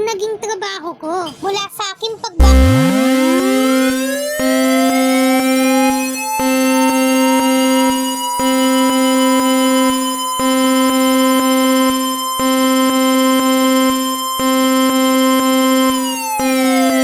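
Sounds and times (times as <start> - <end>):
pulsing buzzing alert tone: 2.4 - 17.0
rising siren-like sweep: 2.4 - 17.0.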